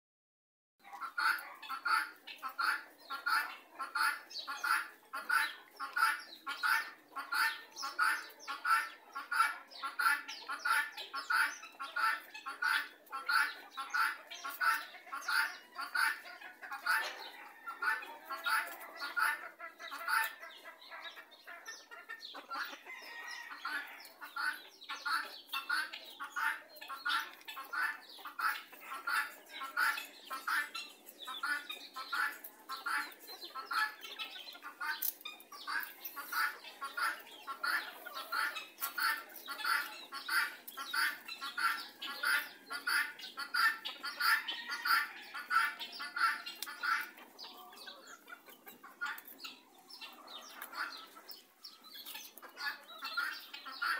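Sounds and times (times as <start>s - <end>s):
rooster clucking: 0.8s - 53.9s.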